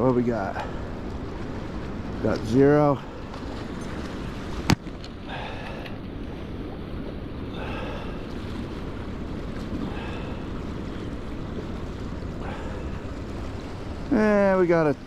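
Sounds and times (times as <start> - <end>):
river water: 0.0 - 15.0.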